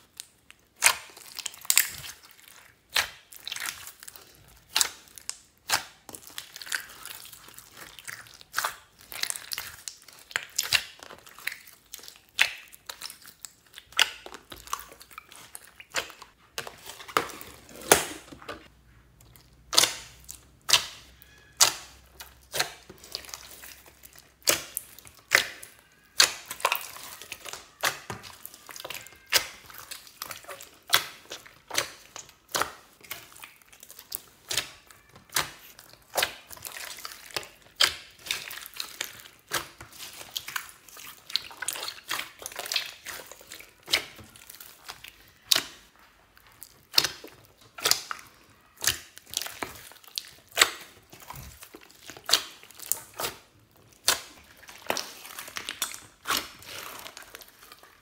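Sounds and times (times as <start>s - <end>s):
slime squelching: 0.0s - 58.0s.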